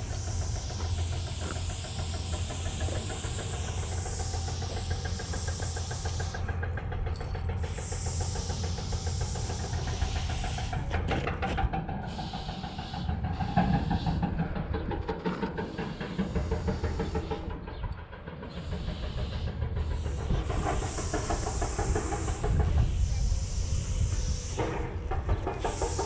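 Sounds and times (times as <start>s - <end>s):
spray paint can hissing: 0.0s - 6.7s, 7.3s - 11.1s, 12.0s - 14.5s, 15.4s - 17.5s, 18.5s - 26.0s
steady low rumble: 0.0s - 26.0s.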